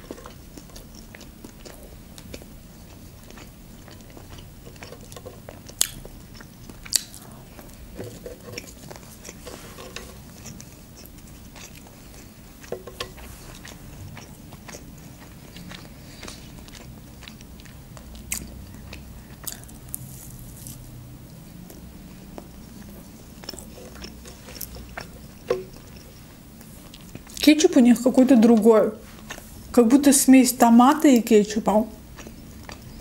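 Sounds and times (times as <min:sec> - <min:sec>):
close chewing: 0:00.0 - 0:20.8, 0:21.5 - 0:29.8, 0:32.0 - 0:33.0.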